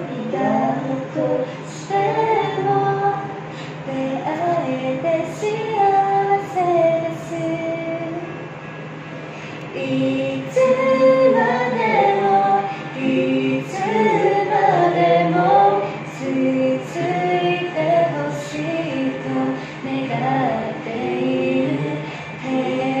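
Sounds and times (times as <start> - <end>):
woman singing: 0.0 - 8.4, 9.7 - 23.0
steady low hum: 0.0 - 23.0.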